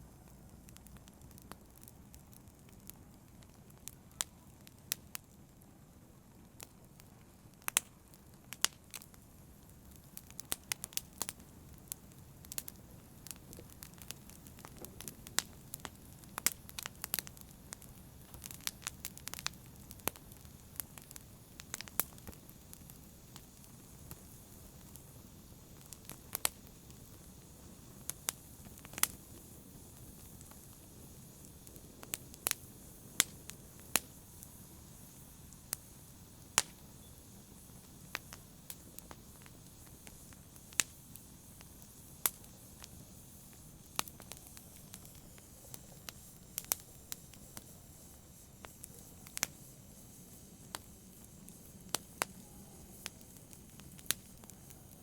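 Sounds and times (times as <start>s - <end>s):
fire hissing: 0.0s - 55.0s
fire popping and crackling: 0.0s - 55.0s.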